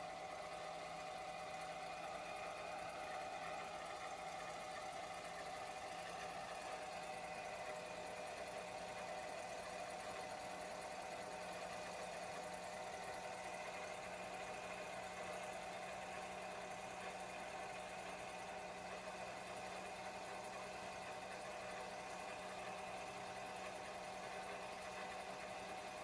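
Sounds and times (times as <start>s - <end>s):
generator engine humming: 0.0s - 26.0s.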